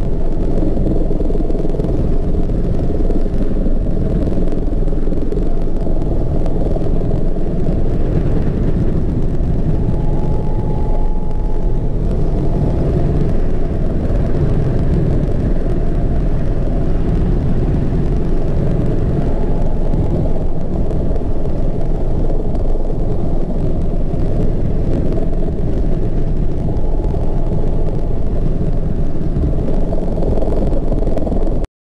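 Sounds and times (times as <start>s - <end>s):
helicopter engine and rotor rumble: 0.0s - 31.6s.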